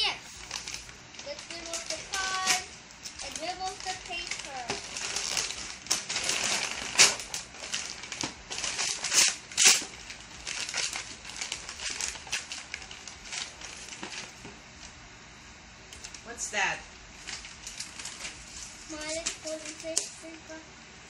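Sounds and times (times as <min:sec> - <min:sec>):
gift bag crinkling and ripping: 0:00.3 - 0:15.0, 0:17.1 - 0:20.4.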